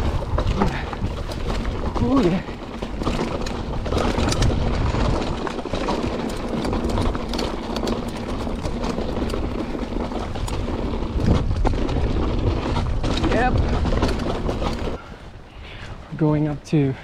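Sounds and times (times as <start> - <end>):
wind on microphone: 0.0 - 16.1
mountain bike rattling over trail: 0.0 - 17.0.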